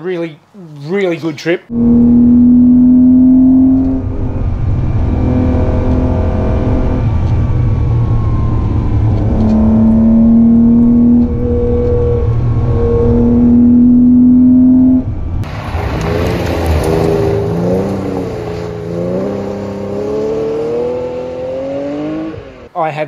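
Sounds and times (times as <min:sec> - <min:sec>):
car engine pulling hard: 0:01.7 - 0:22.7.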